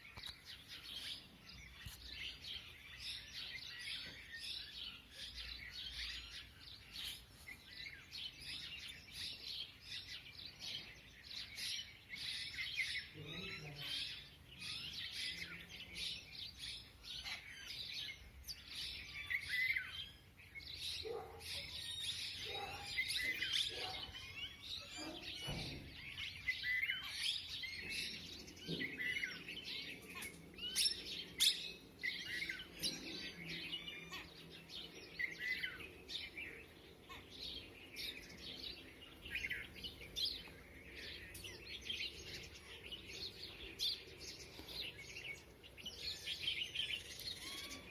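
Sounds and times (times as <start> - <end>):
flock of birds chirping: 0.0 - 47.9.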